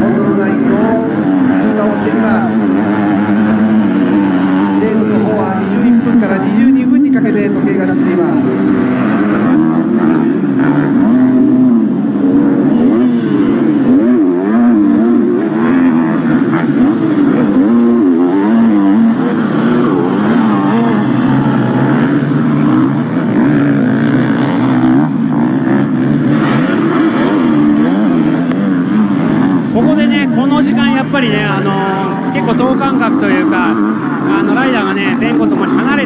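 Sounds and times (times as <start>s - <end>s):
motocross bike engines revving: 0.0s - 36.0s.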